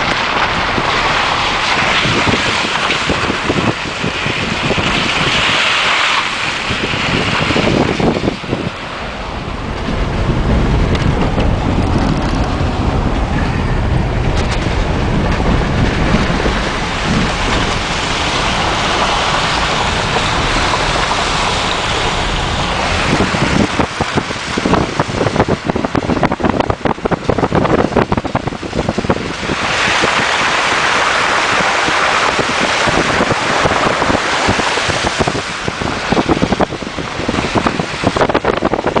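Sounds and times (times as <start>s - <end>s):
gravel knocking under tyres: 0.0s - 39.0s
splashing water and tyre noise: 0.0s - 39.0s.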